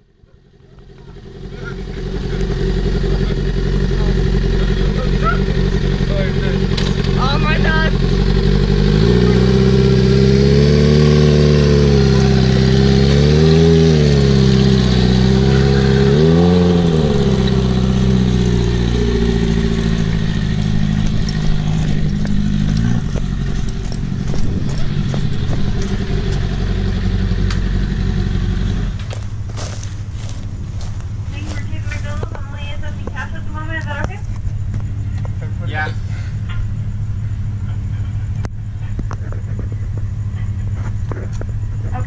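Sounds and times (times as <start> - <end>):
low rumble: 0.0 - 42.0
motorcycle engine revving: 0.0 - 42.0.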